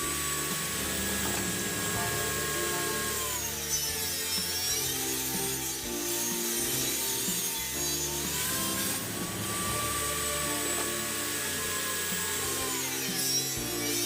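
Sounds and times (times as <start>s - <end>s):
background music: 0.0s - 14.0s
power saw cutting wood: 0.0s - 14.0s.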